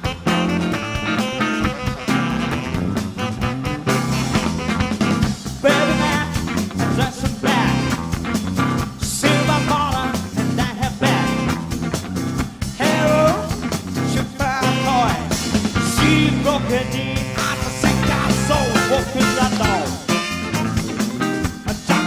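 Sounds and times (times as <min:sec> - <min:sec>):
live band playing swing music: 0:00.0 - 0:22.0.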